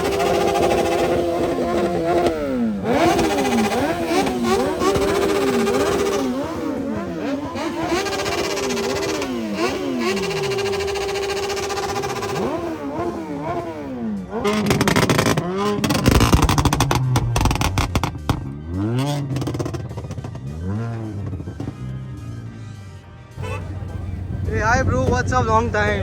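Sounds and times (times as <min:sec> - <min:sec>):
engine crackling: 0:00.0 - 0:26.0
motorcycle engines revving: 0:00.0 - 0:26.0.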